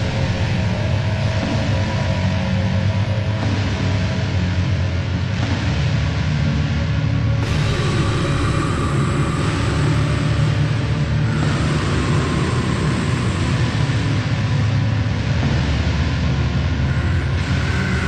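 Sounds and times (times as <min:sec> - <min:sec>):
distorted doom metal guitar: 0:00.0 - 0:18.0
low droning bass: 0:00.0 - 0:18.0.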